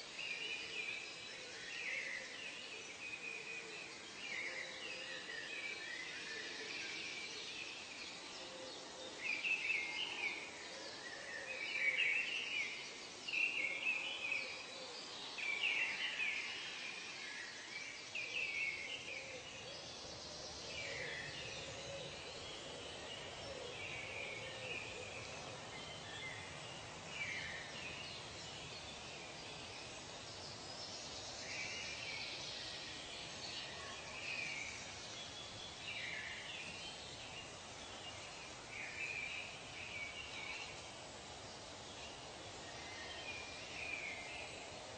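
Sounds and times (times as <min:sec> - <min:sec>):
background hiss: 0:00.0 - 0:44.9.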